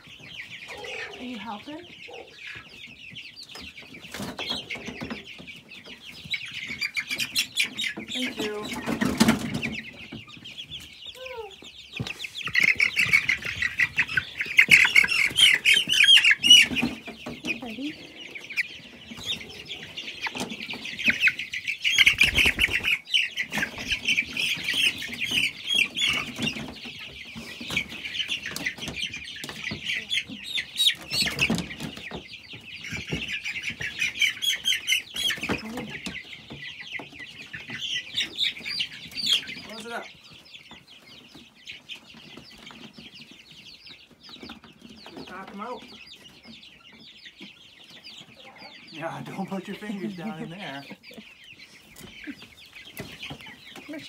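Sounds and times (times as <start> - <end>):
chicks peeping shrilly: 0.0 - 54.0.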